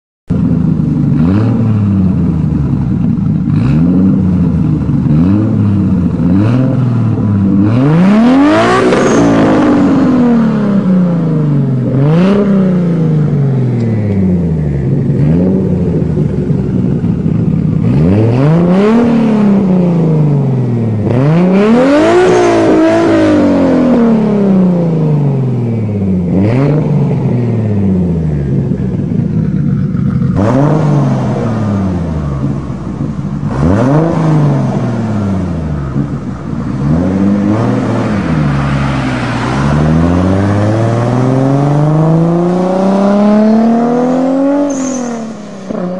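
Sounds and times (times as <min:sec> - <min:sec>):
car engine revving: 0:00.3 - 0:45.9.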